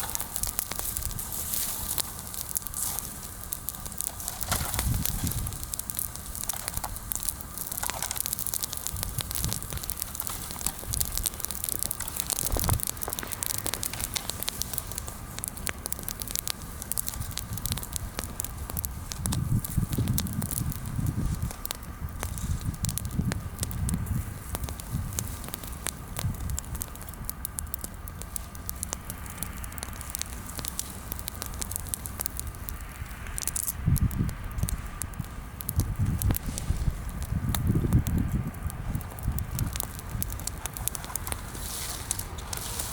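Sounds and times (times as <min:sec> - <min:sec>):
bonfire crackling and popping: 0:00.0 - 0:42.9
low fire rumbles: 0:00.0 - 0:42.9.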